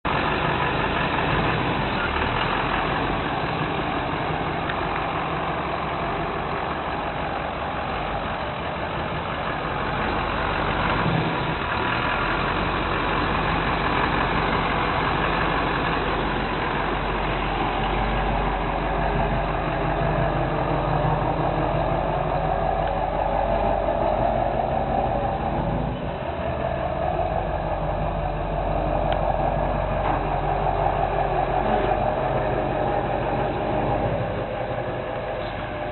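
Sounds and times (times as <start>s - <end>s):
pickup truck engine idling: 0.0s - 35.9s.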